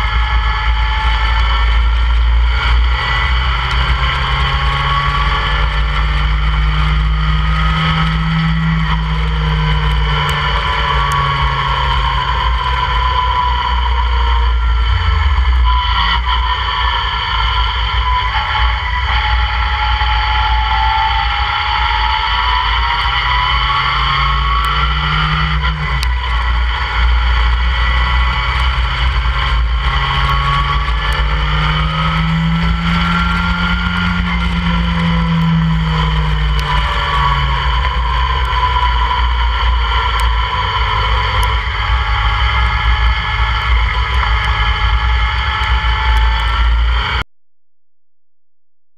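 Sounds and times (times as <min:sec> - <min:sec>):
race car engine running hard: 0:00.0 - 0:47.2.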